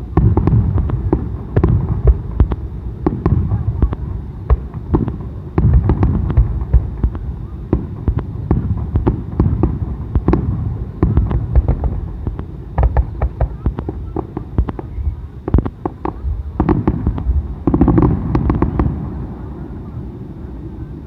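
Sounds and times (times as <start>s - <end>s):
fireworks bangs and crackling: 0.0s - 21.0s
low rumble of explosions: 0.0s - 21.0s.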